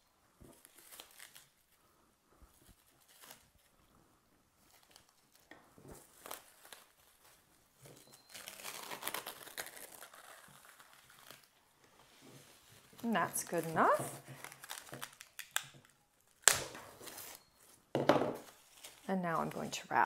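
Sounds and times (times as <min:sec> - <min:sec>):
cling film crinkling: 0:00.5 - 0:01.8, 0:02.5 - 0:04.0, 0:04.6 - 0:17.8, 0:18.4 - 0:20.0.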